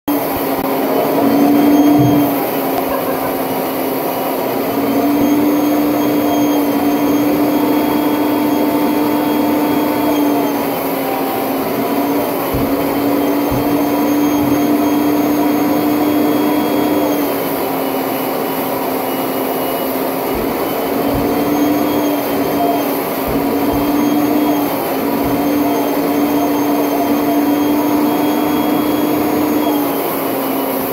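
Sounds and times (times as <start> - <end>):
vacuum cleaner running: 0.0 - 30.9.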